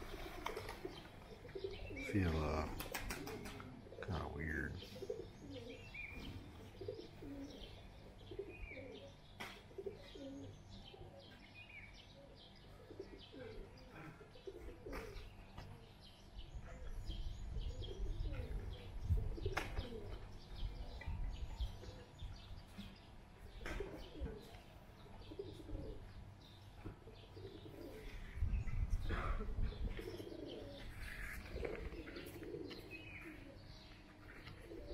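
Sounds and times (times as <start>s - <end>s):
pigeons cooing: 0.0s - 34.9s
small birds chirping: 0.0s - 34.9s.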